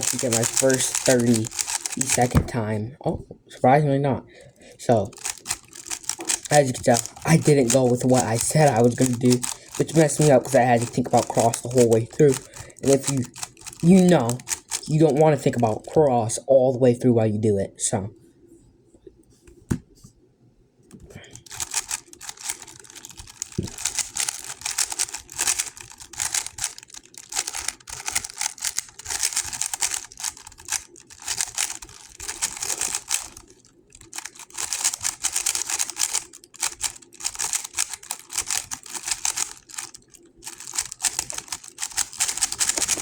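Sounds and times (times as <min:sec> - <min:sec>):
puzzle cube clicking: 0:00.0 - 0:02.7, 0:04.9 - 0:15.9, 0:20.9 - 0:43.0.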